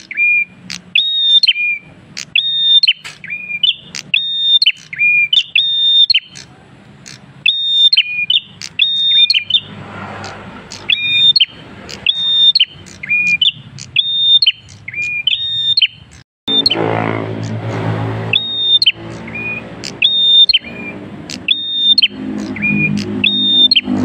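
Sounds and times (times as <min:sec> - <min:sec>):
bird whistling sharp notes: 0:00.0 - 0:06.5, 0:07.1 - 0:17.6, 0:18.2 - 0:24.0.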